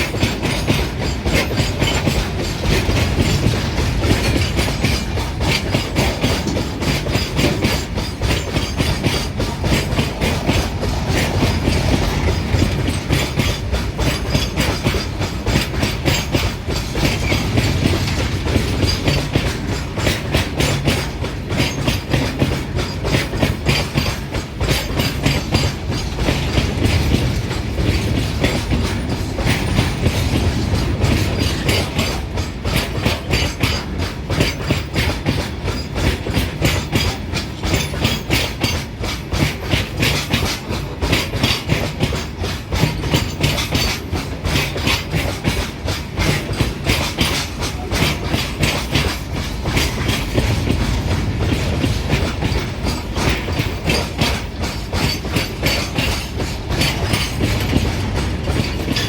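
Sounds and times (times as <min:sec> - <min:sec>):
train rumble: 0:00.0 - 0:59.0
train wheels clickety-clack: 0:00.0 - 0:59.0.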